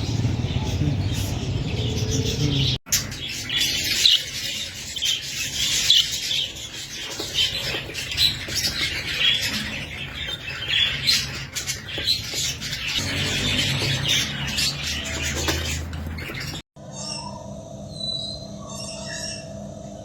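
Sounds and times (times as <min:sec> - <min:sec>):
parrots squawking and chirping: 0:00.0 - 0:17.4.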